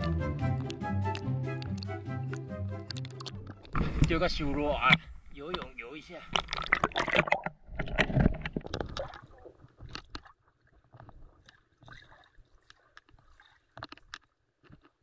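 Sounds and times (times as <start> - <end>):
bubbles crackling and clicking: 0.0 - 4.3, 4.9 - 15.0
water churning around camera: 0.0 - 15.0.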